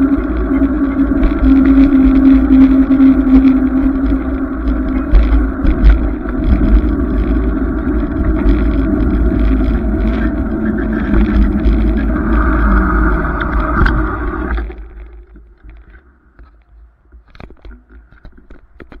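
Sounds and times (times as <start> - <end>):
wind on microphone: 0.0 - 16.5
bicycle road rumble: 0.0 - 19.0.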